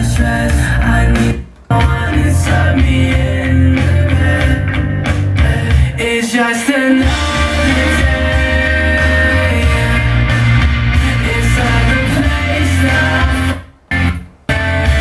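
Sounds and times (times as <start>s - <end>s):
rock song with heavy bass: 0.0s - 6.3s, 7.0s - 15.0s.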